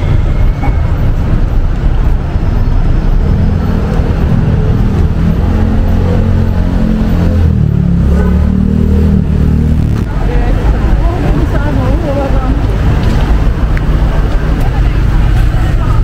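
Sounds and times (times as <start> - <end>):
deep engine hum: 0.0 - 16.0
street traffic: 0.0 - 16.0.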